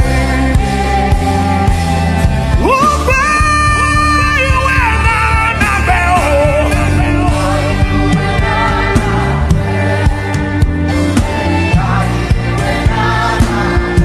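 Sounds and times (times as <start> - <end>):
gospel worship music: 0.0 - 14.0.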